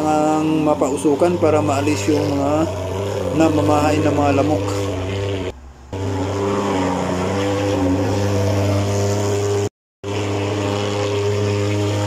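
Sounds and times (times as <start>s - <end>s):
fogging machine buzzing: 0.0s - 12.0s.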